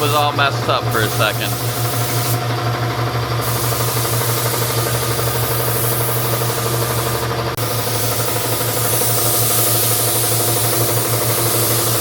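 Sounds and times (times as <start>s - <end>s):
paint spray gun hissing: 0.0s - 2.4s, 3.4s - 12.0s
steady motor hum: 0.0s - 12.0s.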